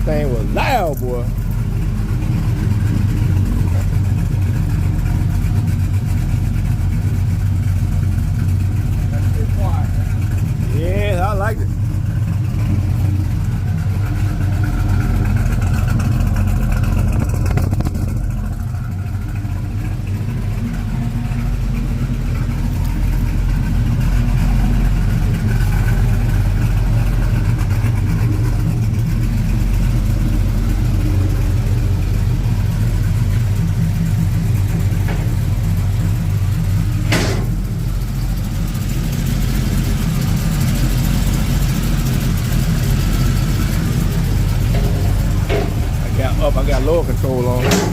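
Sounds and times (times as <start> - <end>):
truck engine rumbling: 0.0 - 47.9.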